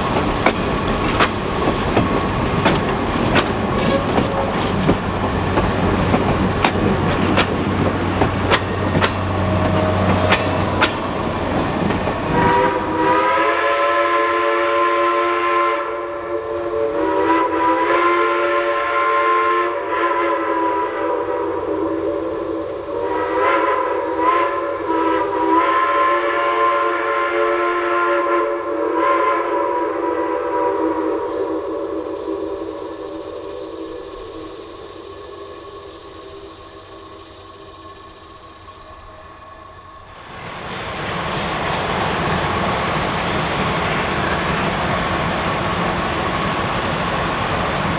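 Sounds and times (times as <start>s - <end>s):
steam train running: 0.0s - 47.9s
steam locomotive chime whistle: 8.3s - 47.9s.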